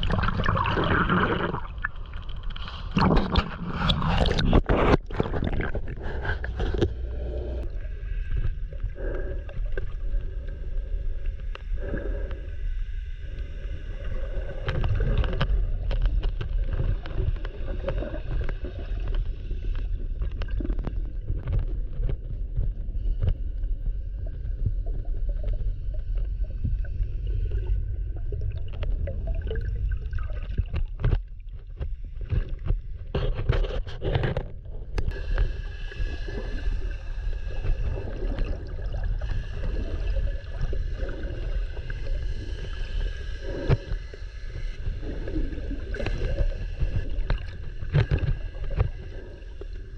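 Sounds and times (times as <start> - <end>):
muffled underwater rumble: 0.0 - 49.9
underwater clicks and gurgling: 0.0 - 49.9.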